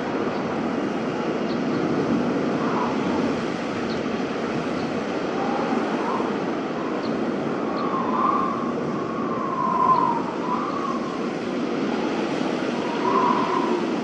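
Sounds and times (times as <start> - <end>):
wind howling: 0.0 - 14.0.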